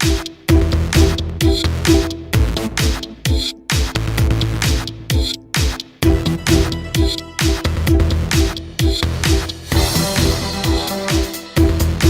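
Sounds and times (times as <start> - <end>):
electronic music: 0.0 - 12.0
kick-drum beat: 0.0 - 12.0
sustained synth notes: 0.0 - 12.0.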